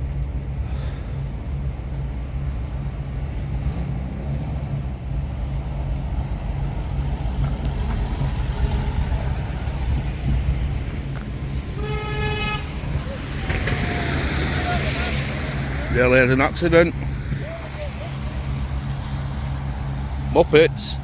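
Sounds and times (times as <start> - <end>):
traffic engine rumble: 0.0 - 21.0.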